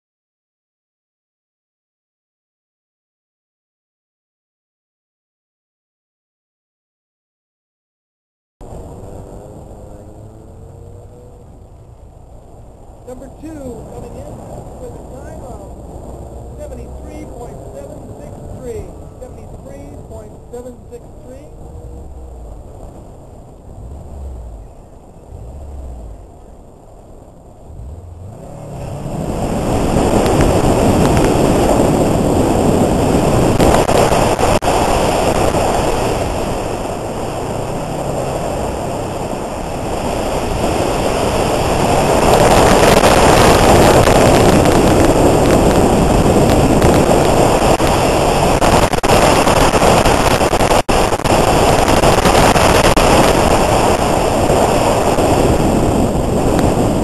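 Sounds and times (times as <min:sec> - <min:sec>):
car engine revving: 0:08.6 - 0:57.0
wind rushing over microphone: 0:08.6 - 0:57.0.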